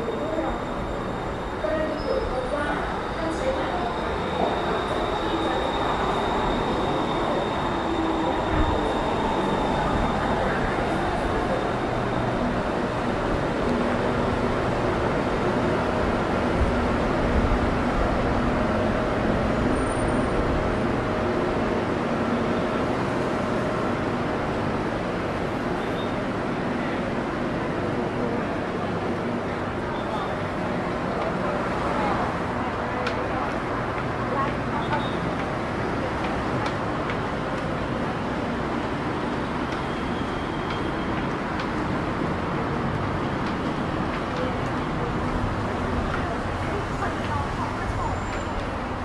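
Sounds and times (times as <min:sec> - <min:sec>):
road traffic rumble: 0:00.0 - 0:49.0
train motors and wheels running: 0:00.0 - 0:49.0.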